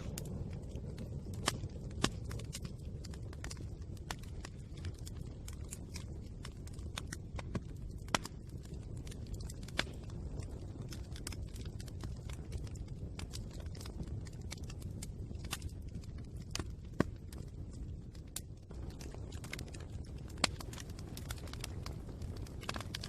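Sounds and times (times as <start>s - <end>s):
burning wood pops and snaps: 0.0s - 23.0s
wood fire crackling: 0.0s - 23.0s.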